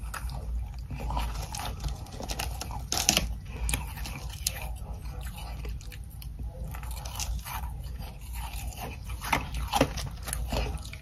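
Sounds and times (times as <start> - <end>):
ice being chewed: 0.0 - 11.0.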